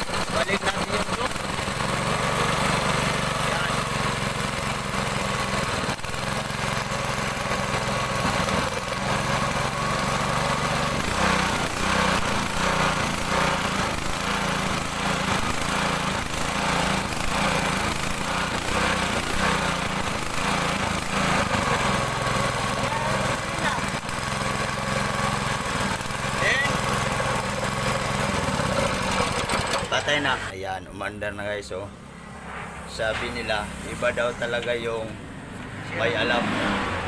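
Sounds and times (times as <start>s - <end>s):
engine running and surging: 0.0s - 30.5s, 32.2s - 37.0s.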